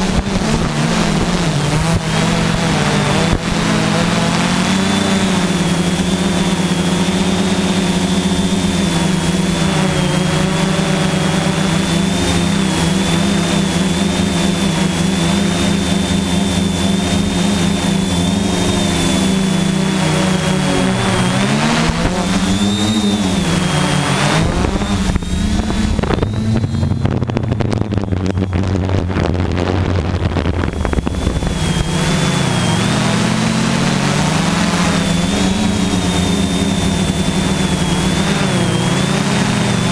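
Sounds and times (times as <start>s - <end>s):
quadcopter motors droning: 0.0s - 39.9s.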